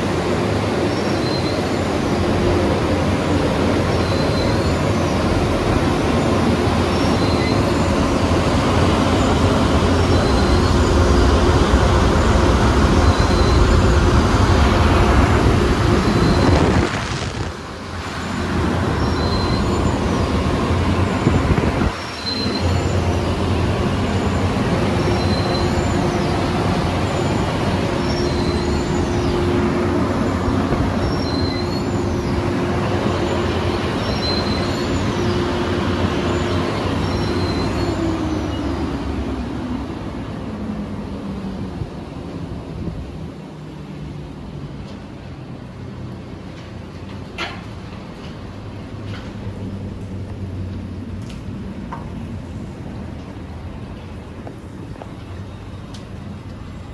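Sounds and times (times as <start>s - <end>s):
car wash machine rumble: 0.0s - 56.9s.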